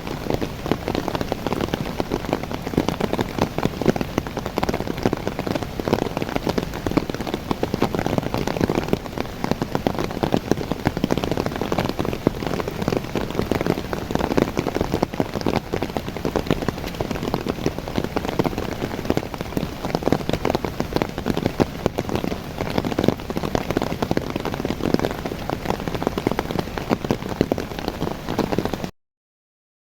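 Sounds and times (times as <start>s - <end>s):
rain falling on leaves: 0.0s - 28.9s.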